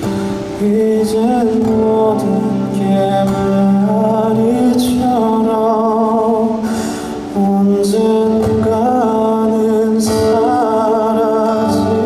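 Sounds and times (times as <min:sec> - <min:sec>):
man singing: 0:00.5 - 0:12.0.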